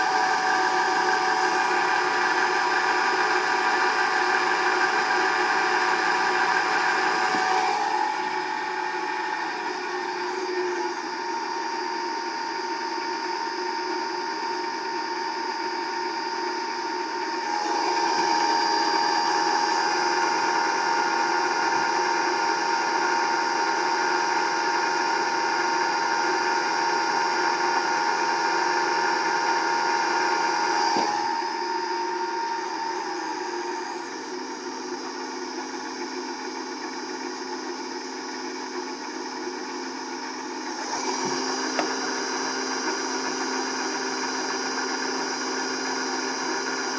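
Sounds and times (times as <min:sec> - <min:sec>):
electric motor whine: 0:00.0 - 0:46.9.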